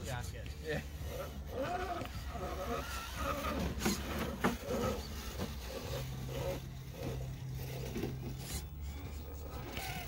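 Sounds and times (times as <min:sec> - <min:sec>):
low electric motor whine: 0:00.0 - 0:10.0
tyres scraping on stone: 0:00.6 - 0:10.0.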